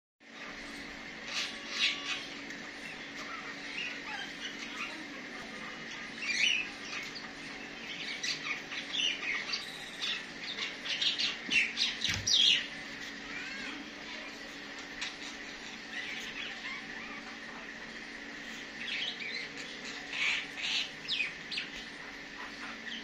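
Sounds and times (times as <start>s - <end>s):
birds chirping and squawking: 0.3s - 23.0s.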